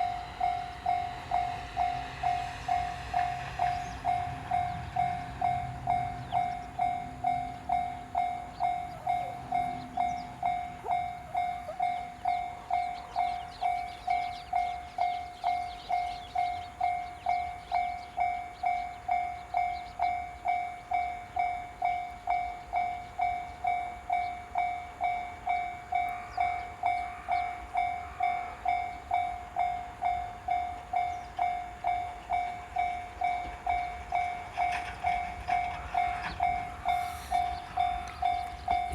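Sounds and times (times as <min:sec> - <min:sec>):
level-crossing warning bell ringing: 0:00.0 - 0:38.9.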